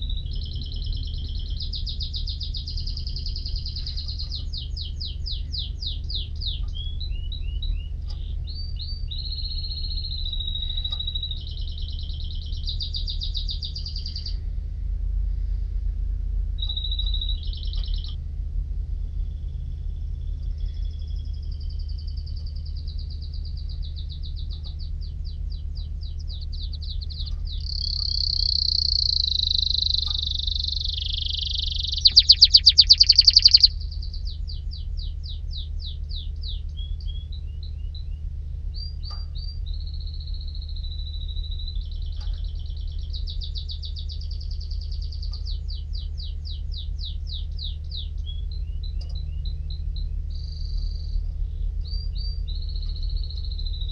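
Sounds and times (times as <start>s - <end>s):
canary singing trills: 0.0s - 14.5s, 16.6s - 18.2s, 19.1s - 53.9s
low hum: 0.0s - 53.9s.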